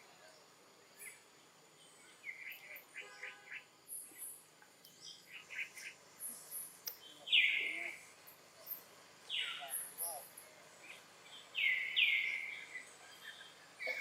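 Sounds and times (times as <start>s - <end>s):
faint high chirps: 0.0s - 14.0s.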